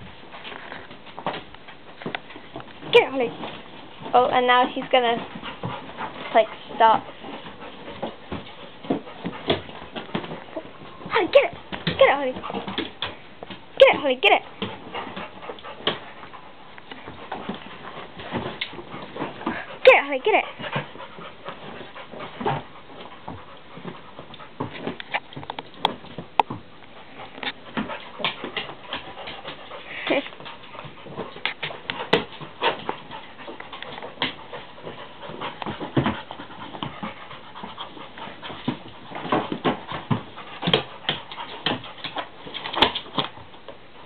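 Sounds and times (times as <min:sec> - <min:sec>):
dog panting: 0:00.0 - 0:44.0.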